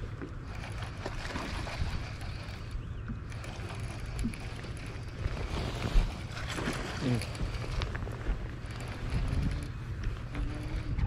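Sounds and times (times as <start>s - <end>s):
low rumble of wind and water: 0.0s - 11.0s.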